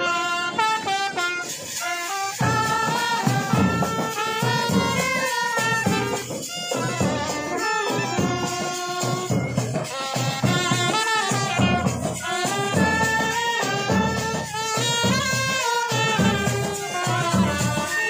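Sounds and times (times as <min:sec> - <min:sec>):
brass band playing: 0:00.0 - 0:18.0
drum beats: 0:00.0 - 0:18.0.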